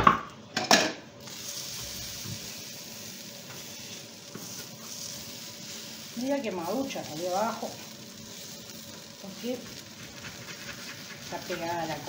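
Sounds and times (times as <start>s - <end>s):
tortilla sizzling in a frying pan: 1.2s - 12.0s.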